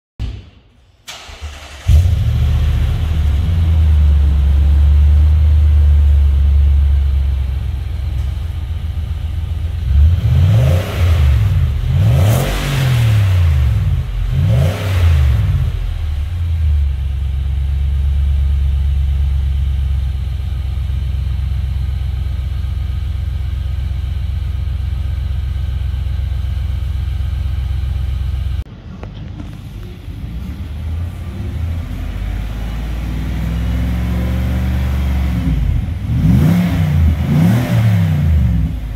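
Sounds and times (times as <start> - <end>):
engine idling and revving: 1.1 - 28.7, 29.4 - 38.9.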